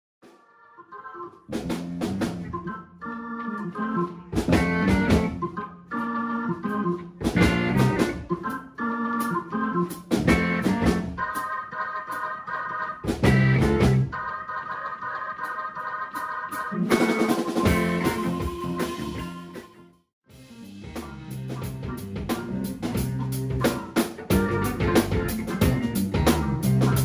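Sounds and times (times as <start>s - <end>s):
instrumental soul music with organ: 0.9s - 20.0s, 20.7s - 27.0s.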